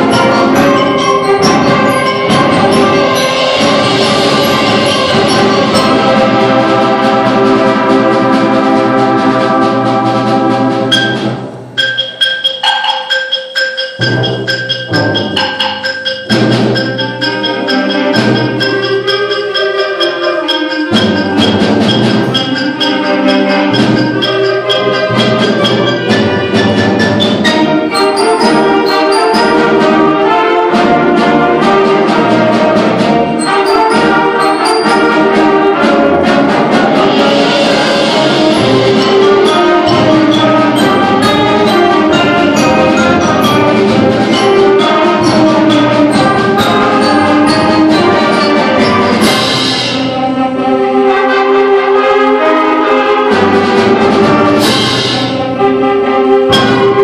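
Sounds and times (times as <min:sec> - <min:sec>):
concert band playing: 0:00.0 - 0:57.0
percussion strokes: 0:00.0 - 0:57.0.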